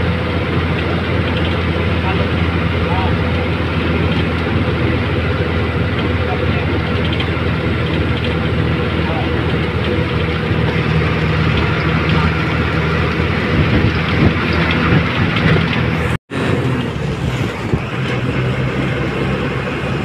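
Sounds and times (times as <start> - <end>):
bus engine humming: 0.0 - 20.0
road noise: 0.0 - 20.0.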